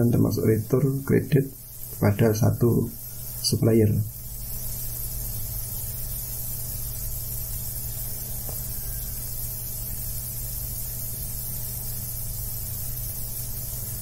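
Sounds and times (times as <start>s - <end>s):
microphone hiss and electrical hum: 0.0s - 14.0s.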